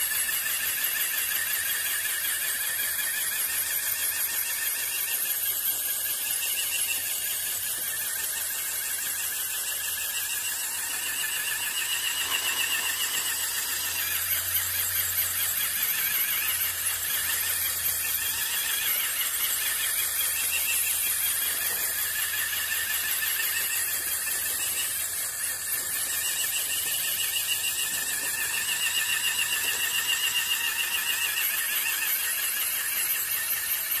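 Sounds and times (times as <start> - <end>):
high-pitched electric motor whine: 0.0 - 34.0.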